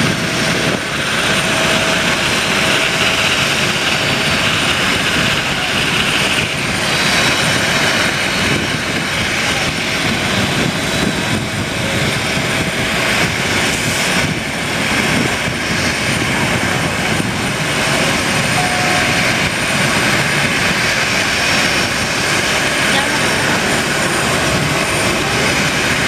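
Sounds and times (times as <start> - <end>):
jet engines idling: 0.0 - 26.0.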